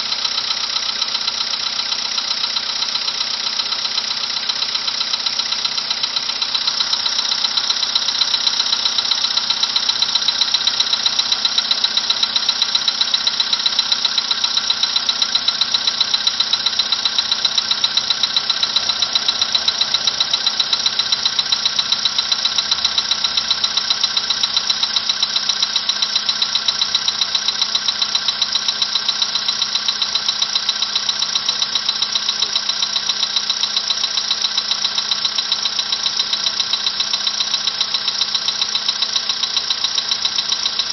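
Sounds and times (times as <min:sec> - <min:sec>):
car engine idling with knocking: 0:00.0 - 0:40.9.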